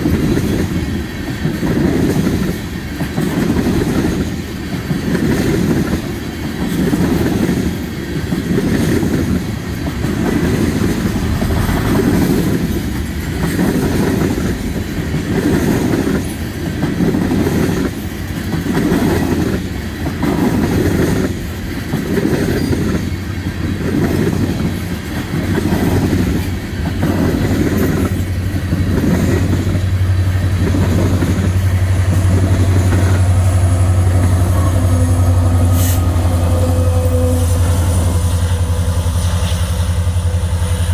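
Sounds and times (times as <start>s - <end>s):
diesel locomotive engine drone: 0.0s - 40.9s
train wheels clattering over rails: 0.0s - 40.9s.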